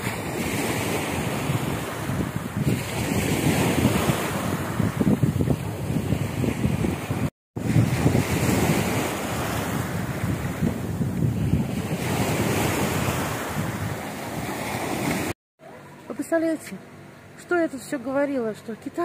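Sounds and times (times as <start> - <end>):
wind buffeting microphone: 0.0 - 15.3
sea waves breaking on shore: 0.0 - 15.4.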